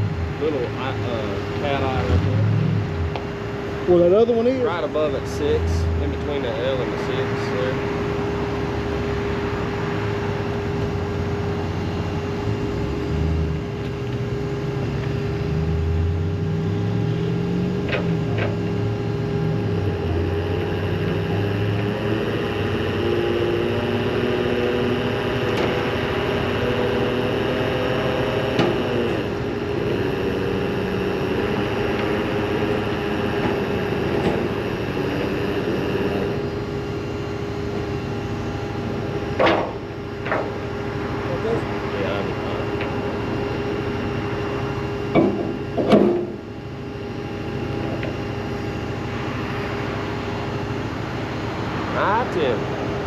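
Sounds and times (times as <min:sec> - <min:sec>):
crane mechanical hum: 0:00.0 - 0:53.0
high mechanical whine: 0:00.0 - 0:53.0
low drone shifting pitch: 0:00.0 - 0:53.0.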